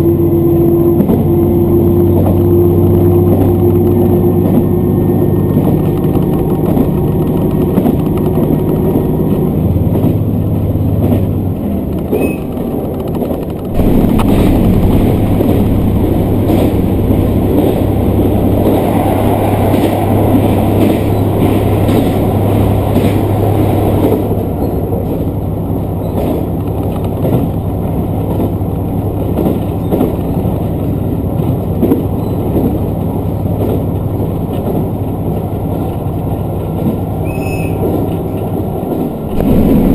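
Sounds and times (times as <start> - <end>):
diesel engine drone: 0.0 - 39.9
wheel and rail noise: 0.0 - 39.9.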